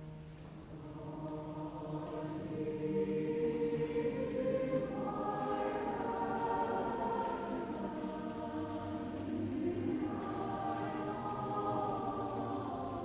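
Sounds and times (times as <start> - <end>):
choir singing in parts: 0.6 - 13.0.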